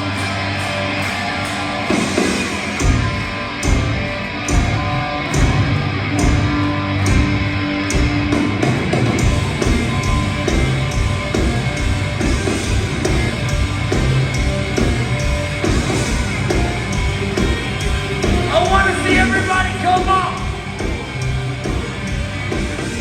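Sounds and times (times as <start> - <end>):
drums keeping steady beat: 0.0 - 23.0
heavy rock band playing: 0.0 - 23.0.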